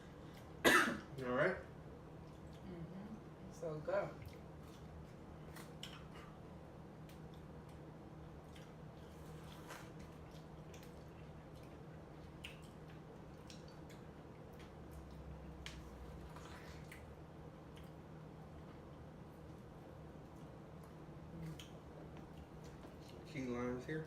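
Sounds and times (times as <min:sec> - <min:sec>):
low room hum: 0:00.0 - 0:24.0
wet chewing and mouth sounds: 0:02.1 - 0:02.8, 0:04.1 - 0:23.4.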